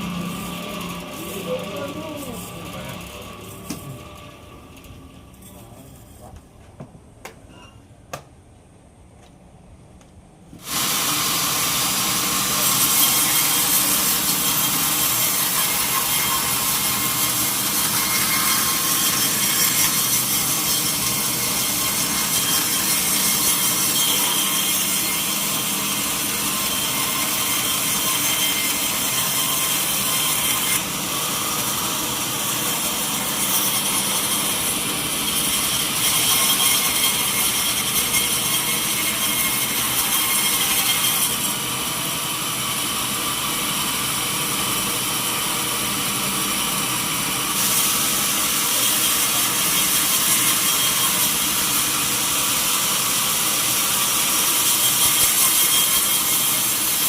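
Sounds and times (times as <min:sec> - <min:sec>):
saw cutting through log: 0:00.0 - 0:06.4, 0:10.6 - 0:57.0.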